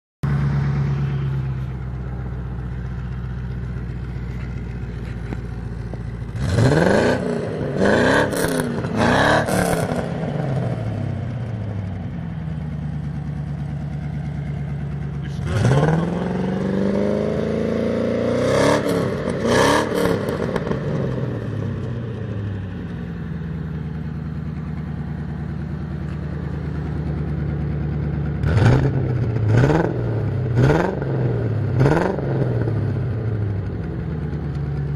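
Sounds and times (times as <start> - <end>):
engine exhaust idling and revving: 0.2 - 34.9.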